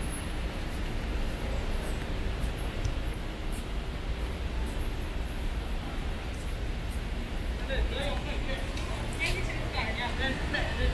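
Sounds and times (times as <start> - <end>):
traffic on wet road: 0.0 - 10.9.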